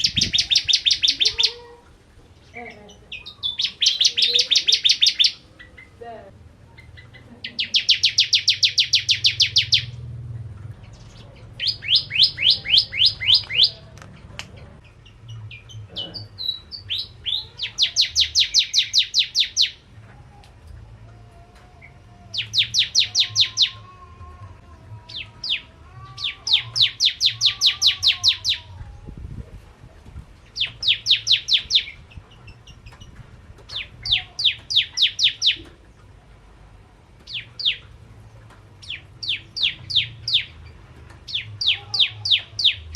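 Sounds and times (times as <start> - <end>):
bird chipping song: 0.0 - 1.6, 2.3 - 6.0, 6.7 - 19.9, 21.8 - 23.8, 25.1 - 28.8, 30.4 - 36.2, 37.2 - 42.9.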